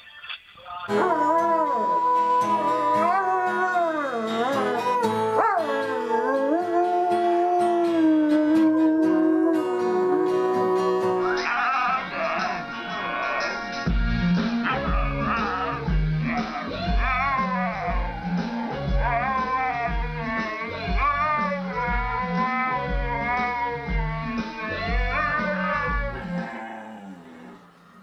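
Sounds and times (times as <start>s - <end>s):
music: 0.0s - 28.0s
dog howling: 0.9s - 12.4s, 15.1s - 27.9s.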